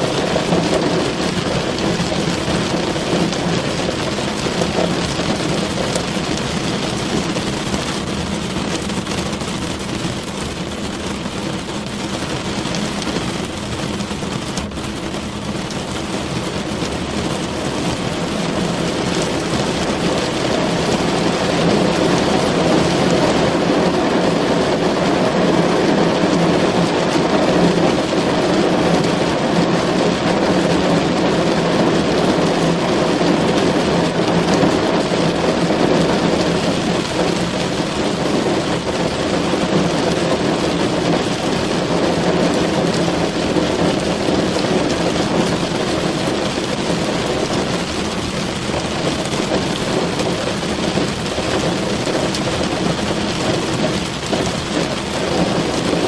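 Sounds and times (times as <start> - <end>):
rain drumming on car roof: 0.0 - 56.0.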